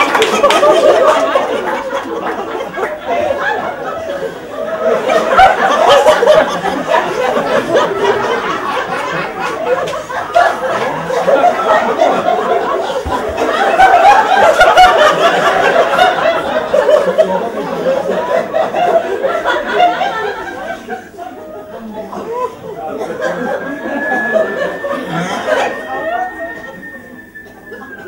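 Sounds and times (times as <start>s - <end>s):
audience laughing: 0.0s - 28.0s
chatter of voices: 0.0s - 28.0s.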